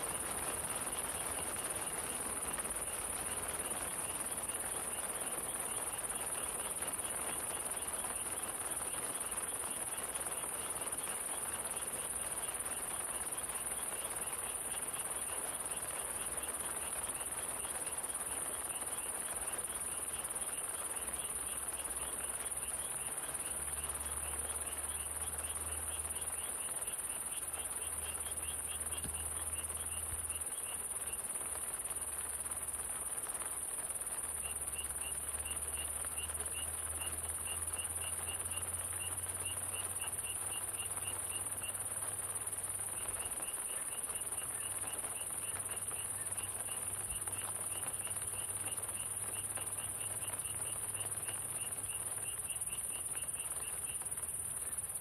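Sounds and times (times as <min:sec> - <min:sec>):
crickets chirping: 0:00.0 - 0:55.0
high insect drone: 0:00.0 - 0:55.0
rain hiss: 0:00.0 - 0:55.0.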